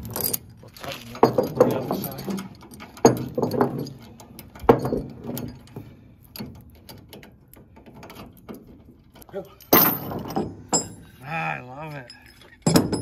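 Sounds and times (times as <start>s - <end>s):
metal clanks: 0.0s - 11.2s, 11.9s - 13.0s
chain rattling and clinking: 0.0s - 13.0s.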